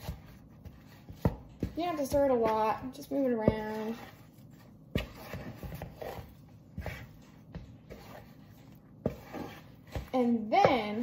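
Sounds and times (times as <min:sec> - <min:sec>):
spoon knocking and scraping bowl: 0:00.0 - 0:11.0.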